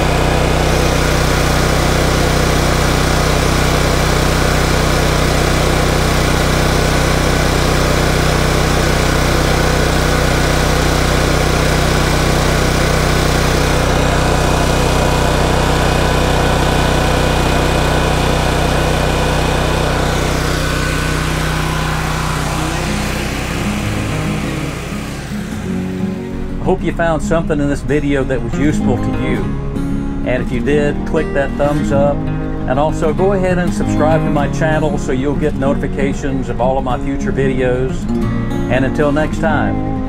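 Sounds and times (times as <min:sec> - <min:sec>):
generator engine running: 0:00.0 - 0:40.0.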